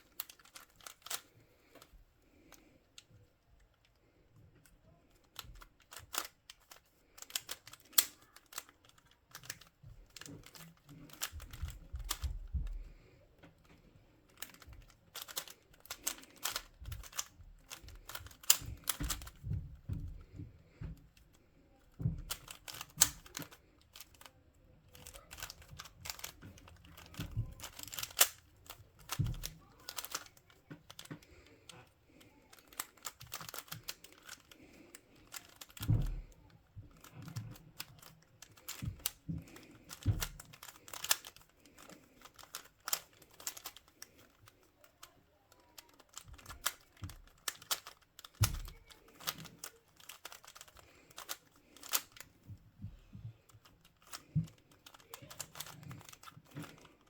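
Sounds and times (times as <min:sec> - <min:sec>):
puzzle cube clicking: 0:00.0 - 0:02.7, 0:05.1 - 0:20.8, 0:22.1 - 0:57.0.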